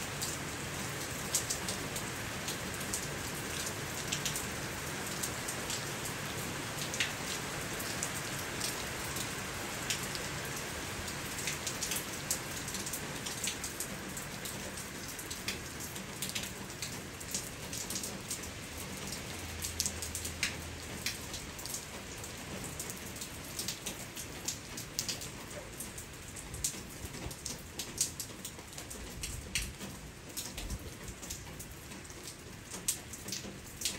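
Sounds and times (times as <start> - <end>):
steady rain hiss: 0.0 - 33.9
raindrops ticking close by: 0.1 - 33.9.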